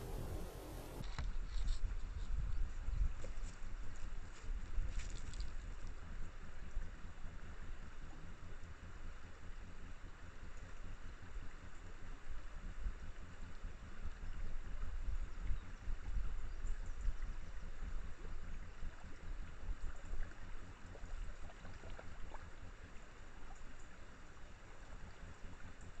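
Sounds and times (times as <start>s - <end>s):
low water rumble: 0.0s - 26.0s.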